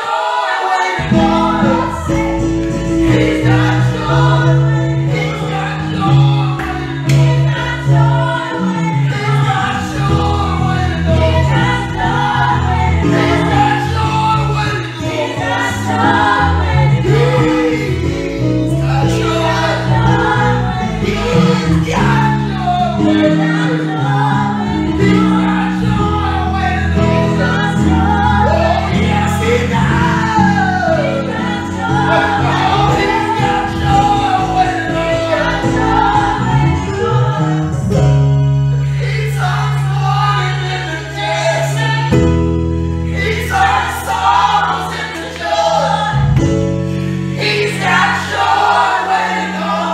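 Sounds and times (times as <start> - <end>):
group of voices singing: 0.0 - 49.9.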